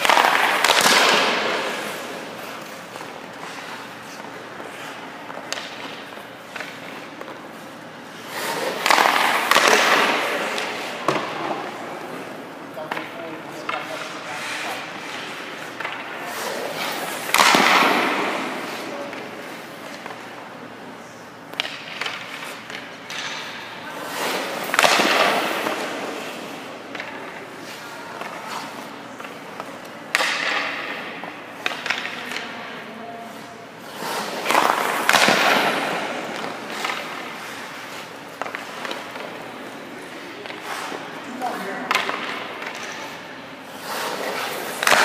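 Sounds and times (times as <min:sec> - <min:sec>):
skates scraping across ice: 0:00.0 - 0:45.0.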